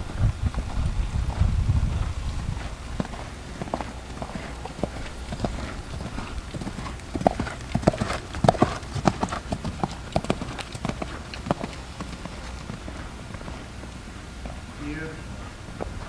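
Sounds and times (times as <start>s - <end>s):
horse hoofbeats trotting on sand: 0.0s - 16.0s.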